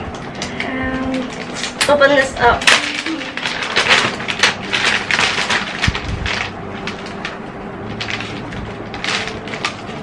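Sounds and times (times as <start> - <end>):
plastic pouch crinkling: 0.1 - 10.0.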